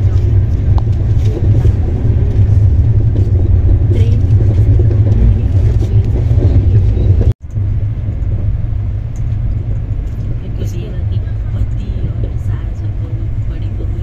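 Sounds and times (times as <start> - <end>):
passenger train rumbling on track: 0.0 - 14.0.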